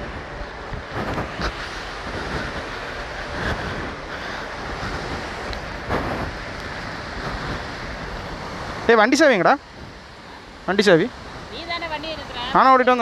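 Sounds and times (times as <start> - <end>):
water rushing over a weir: 0.0 - 13.0.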